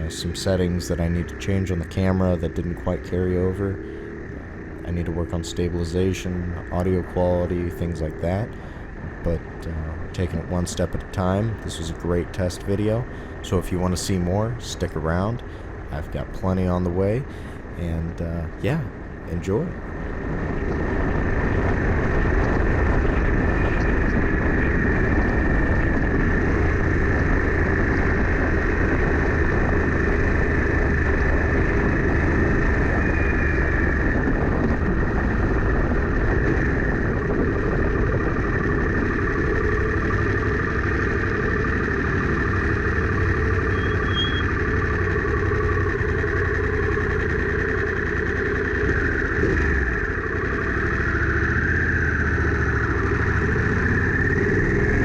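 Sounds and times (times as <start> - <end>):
motorcycle engine running: 0.0 - 17.8, 18.5 - 55.0.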